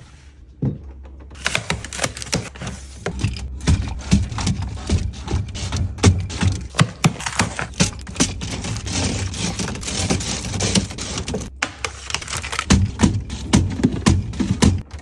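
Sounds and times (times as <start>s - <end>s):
packaging rustling: 1.4s - 14.8s.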